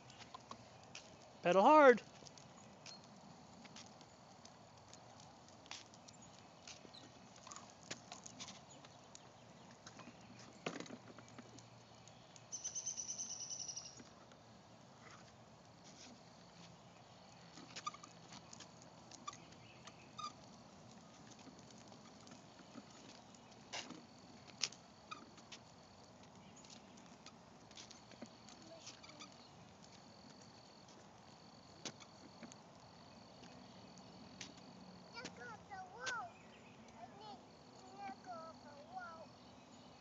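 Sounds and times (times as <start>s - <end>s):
tricycle clicking over concrete: 0.0s - 40.0s.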